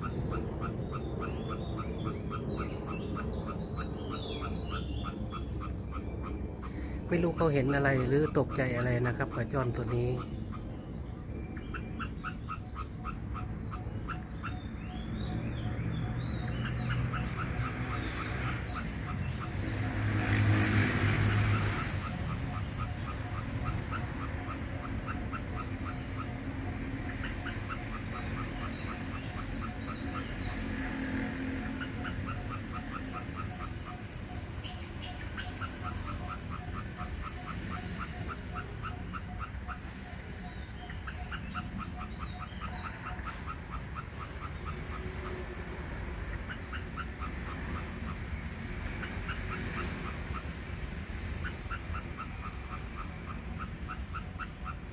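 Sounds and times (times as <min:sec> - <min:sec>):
rushing noise with low hum: 0:00.0 - 0:54.9.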